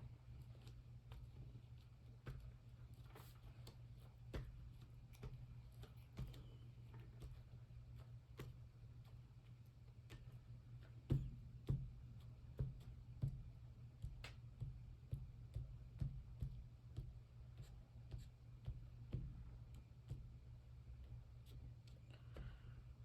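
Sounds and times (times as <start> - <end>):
low steady hum: 0.0 - 23.0
paper taps and scuffs: 0.4 - 20.3.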